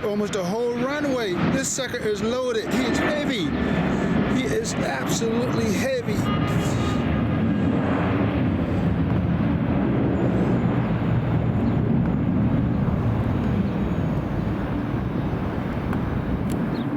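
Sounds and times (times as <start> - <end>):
jet engines at takeoff power: 0.0 - 16.9.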